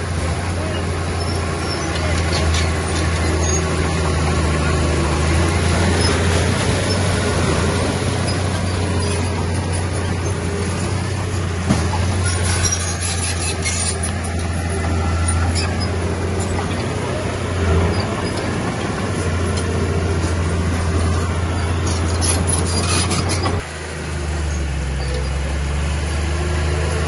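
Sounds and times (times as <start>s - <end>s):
heavy machinery diesel engine running: 0.0s - 27.0s
metallic clanks and squeaks: 0.6s - 23.7s, 24.5s - 25.5s.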